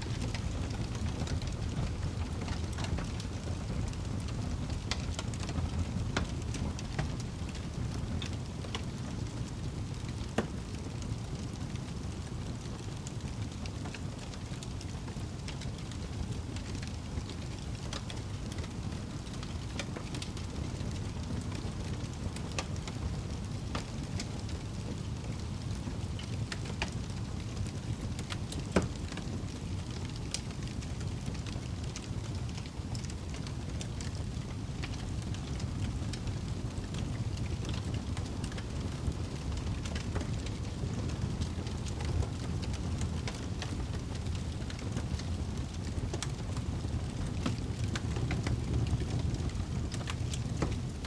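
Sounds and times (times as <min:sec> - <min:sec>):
fire crackling and popping: 0:00.0 - 0:51.0
wood fire rumbling: 0:00.0 - 0:51.0.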